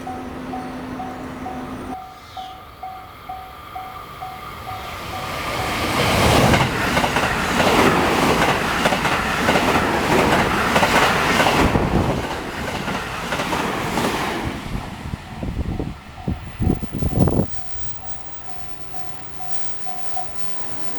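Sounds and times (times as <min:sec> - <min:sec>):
electric train passing: 0:00.0 - 0:20.9.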